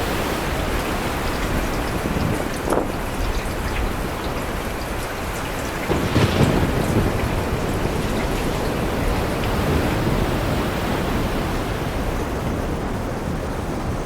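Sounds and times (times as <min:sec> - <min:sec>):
rain falling in forest: 0:00.0 - 0:14.0.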